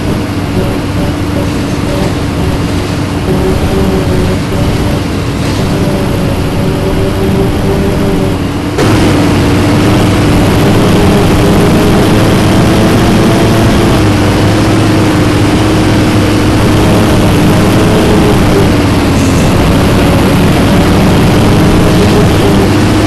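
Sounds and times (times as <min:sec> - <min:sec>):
bus diesel engine droning: 0:00.0 - 0:23.0.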